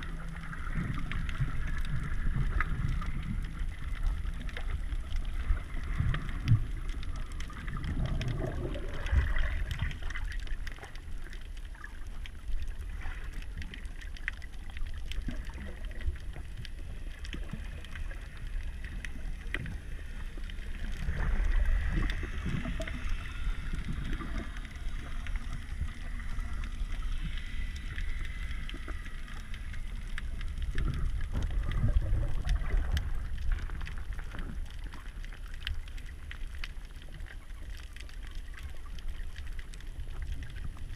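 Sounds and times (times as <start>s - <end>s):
faint clicks: 0.0s - 40.9s
muffled underwater rumble: 0.0s - 40.9s
water swells: 0.0s - 40.9s.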